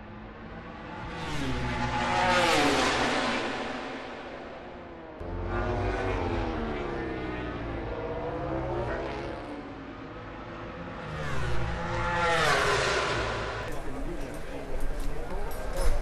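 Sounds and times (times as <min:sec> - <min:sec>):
racing motorcycles revving: 0:00.1 - 0:16.0.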